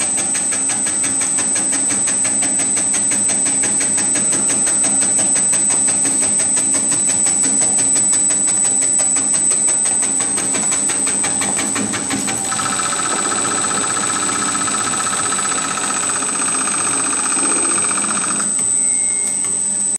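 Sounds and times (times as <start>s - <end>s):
cutter clicking rapidly: 0.0s - 18.8s
machine buzzing hum: 0.0s - 19.9s
machine whine: 0.0s - 19.9s.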